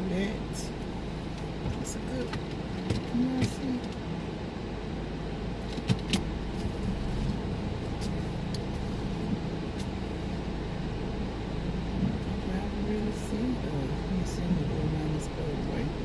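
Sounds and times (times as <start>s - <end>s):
car engine rumble inside cabin: 0.0s - 16.0s.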